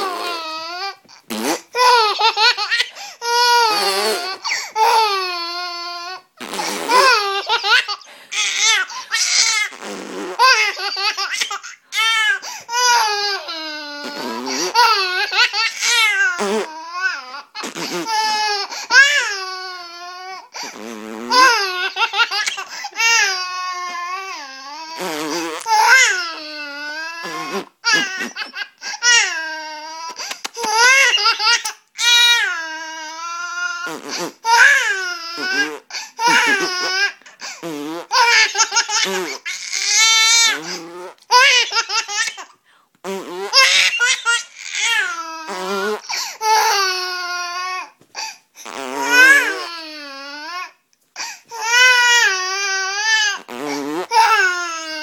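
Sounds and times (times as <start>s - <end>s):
baby laughing and squealing: 0.0s - 42.6s, 43.5s - 47.7s, 49.0s - 50.6s.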